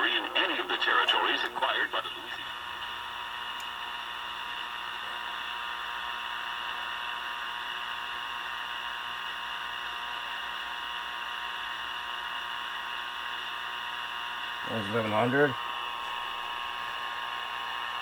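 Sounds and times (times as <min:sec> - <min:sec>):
radio static hiss: 0:00.0 - 0:07.1, 0:10.1 - 0:18.0.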